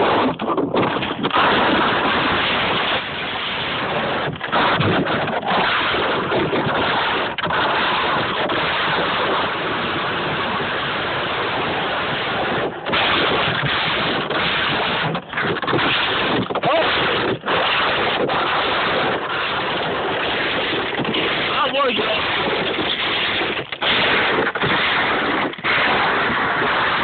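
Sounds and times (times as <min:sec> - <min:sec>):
bucket sliding down a hill: 0:00.0 - 0:27.0
wind buffeting microphone: 0:00.0 - 0:27.0.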